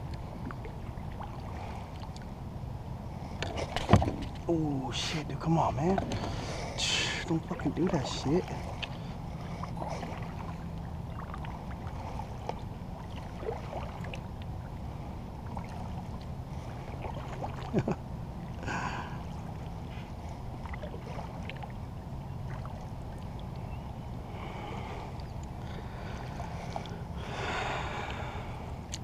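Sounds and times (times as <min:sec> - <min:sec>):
steady low rumble: 0:00.0 - 0:29.0
paddle strokes splashing water: 0:00.2 - 0:02.3, 0:03.2 - 0:04.4, 0:05.8 - 0:29.0.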